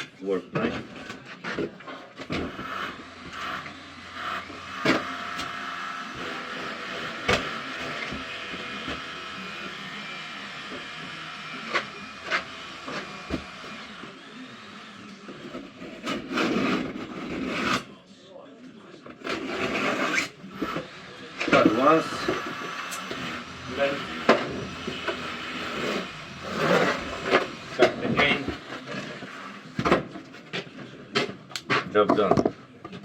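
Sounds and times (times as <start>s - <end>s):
steady mechanical hum: 0.5s - 33.0s.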